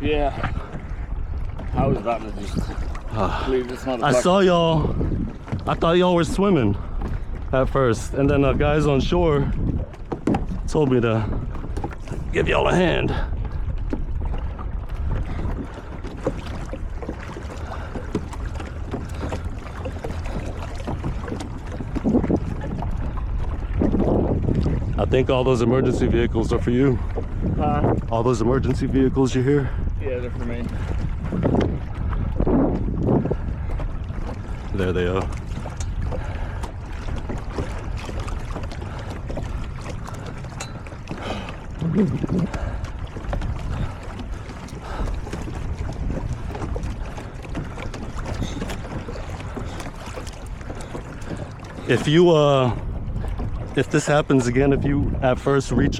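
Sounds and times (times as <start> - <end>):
water splashing against kayak hull: 0.0 - 55.9
wind rumble on microphone: 0.0 - 55.9.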